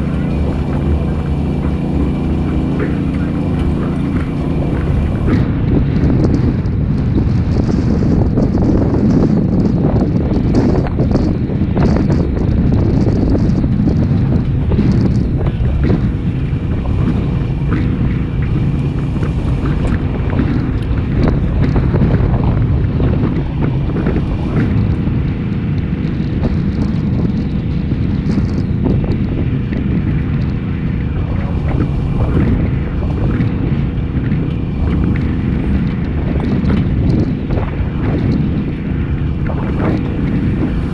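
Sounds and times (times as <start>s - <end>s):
vehicle engine running: 0.0s - 40.9s
wind buffeting microphone: 0.0s - 40.9s.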